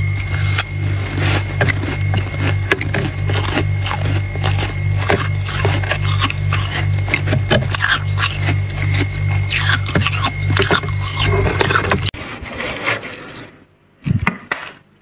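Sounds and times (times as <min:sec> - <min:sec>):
freezer frost scraping and crunching: 0:00.0 - 0:13.7
steady low hum: 0:00.0 - 0:15.0.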